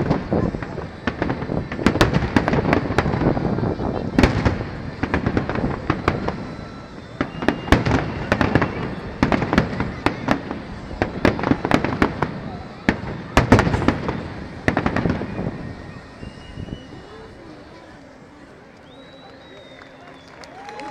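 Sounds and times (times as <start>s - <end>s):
fireworks bursting with bangs: 0.0s - 19.7s.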